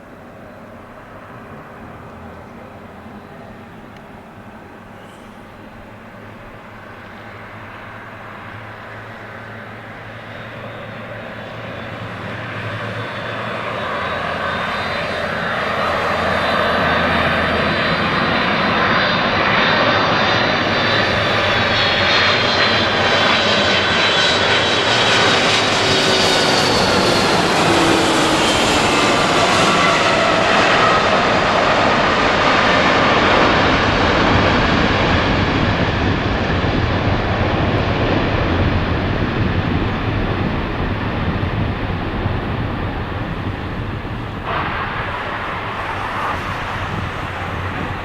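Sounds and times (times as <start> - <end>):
jet engines rumbling: 0.0 - 48.0
high whining engine tones: 7.0 - 48.0.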